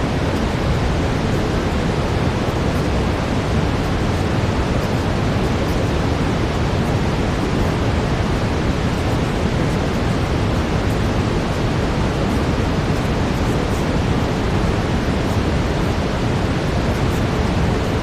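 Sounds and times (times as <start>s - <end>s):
brown noise: 0.0s - 18.0s.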